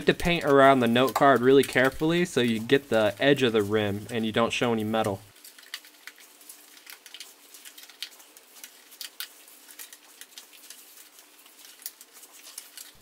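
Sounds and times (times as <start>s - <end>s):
paper cards clicking and scraping: 0.0s - 13.0s.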